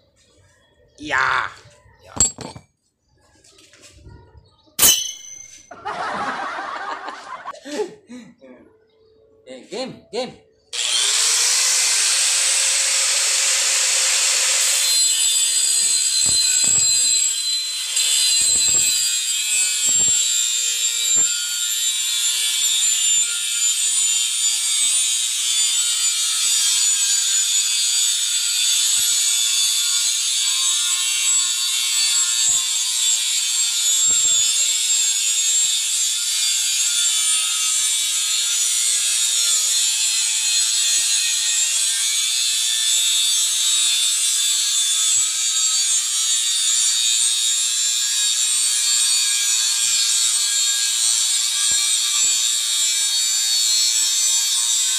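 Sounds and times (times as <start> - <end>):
angle grinder cutting metal: 4.8 - 5.7, 10.8 - 54.9.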